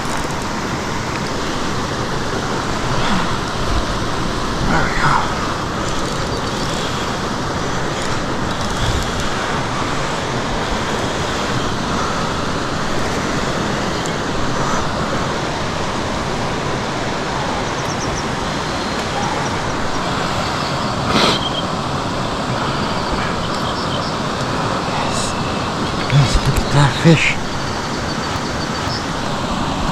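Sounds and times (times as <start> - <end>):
flowing river: 0.0 - 29.9.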